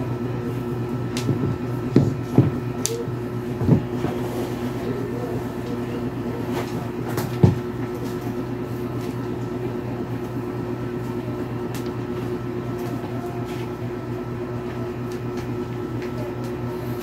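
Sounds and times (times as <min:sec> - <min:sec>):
appliance motor hum: 0:00.0 - 0:17.0.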